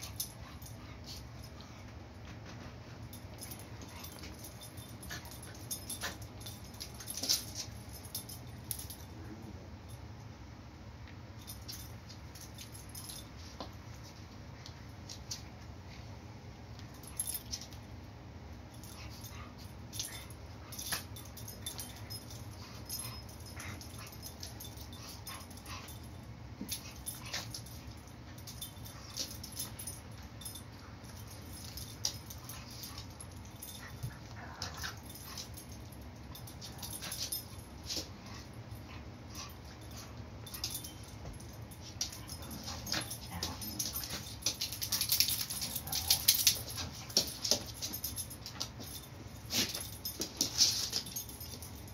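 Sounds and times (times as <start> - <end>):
animals scuffling and clicking: 0.0 - 9.0, 18.8 - 51.9
steady low hum: 0.0 - 51.9.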